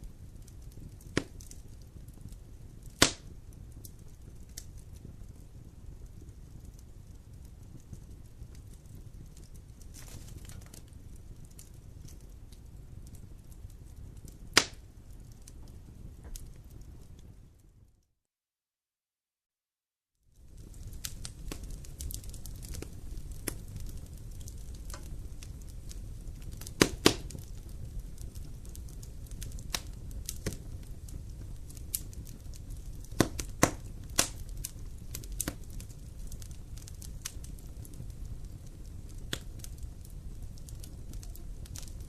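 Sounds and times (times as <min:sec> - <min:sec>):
campfire crackling and popping: 0:00.0 - 0:17.8, 0:20.3 - 0:42.0.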